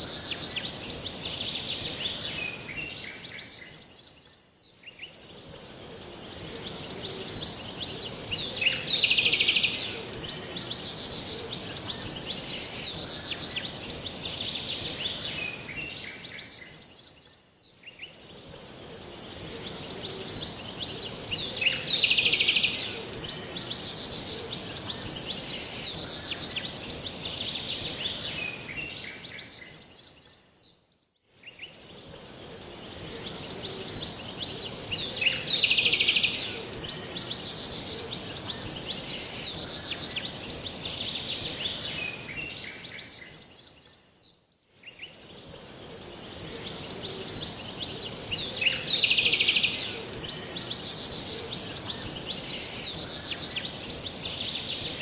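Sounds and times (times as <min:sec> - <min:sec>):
outdoor background hiss: 0:00.0 - 0:55.0
songbirds chirping and trilling: 0:00.0 - 0:55.0.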